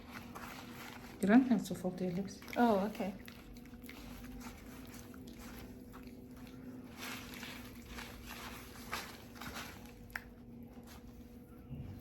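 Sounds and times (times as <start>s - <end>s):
low electrical hum: 0.0s - 12.0s
soft rustling and handling: 0.0s - 12.0s.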